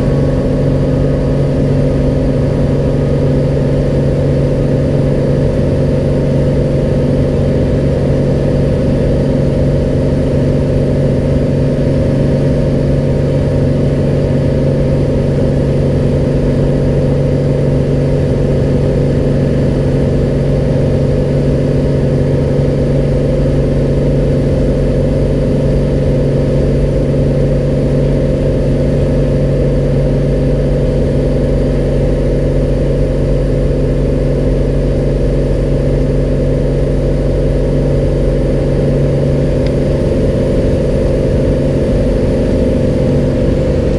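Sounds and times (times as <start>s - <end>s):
propeller plane engine drone: 0.0s - 43.9s.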